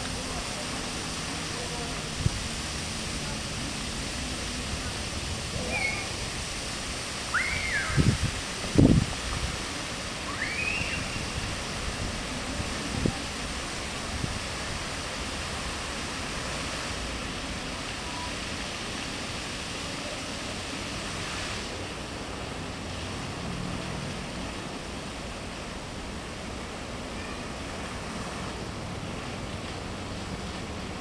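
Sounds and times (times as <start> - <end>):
fountain jets splashing: 0.0 - 31.0.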